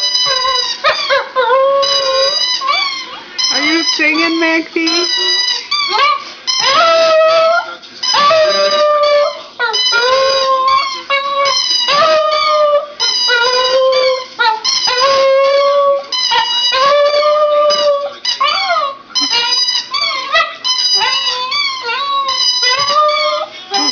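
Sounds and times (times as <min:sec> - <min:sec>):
dog howling: 0:00.2 - 0:03.3, 0:05.8 - 0:23.9.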